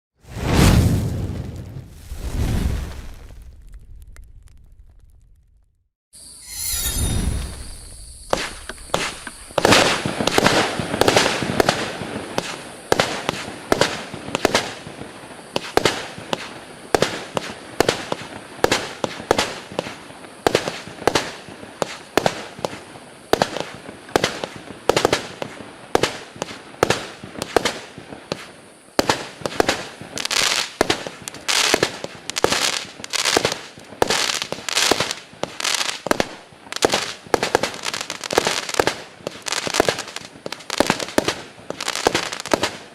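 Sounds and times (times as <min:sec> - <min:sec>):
firework launch bangs and bursts: 0:00.2 - 0:05.5, 0:07.2 - 0:42.9
firework crackling: 0:00.2 - 0:05.6, 0:06.4 - 0:42.9.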